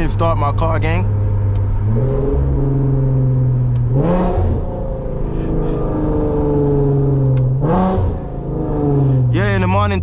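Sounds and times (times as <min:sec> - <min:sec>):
car exhaust droning: 0:00.0 - 0:10.0.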